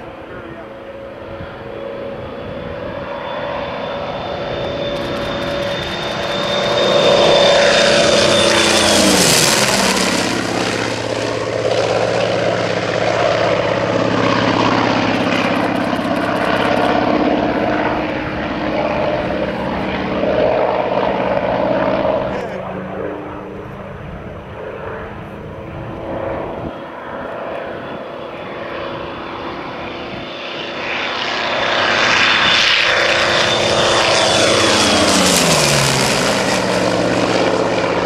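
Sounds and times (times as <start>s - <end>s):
propeller aircraft engine passing: 0.0s - 38.0s.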